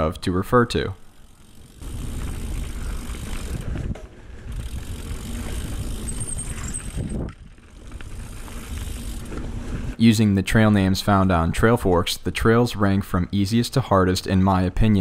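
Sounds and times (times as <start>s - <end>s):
mountain bike tyre and drivetrain noise: 0.0s - 15.0s
bike rattling: 0.5s - 12.6s.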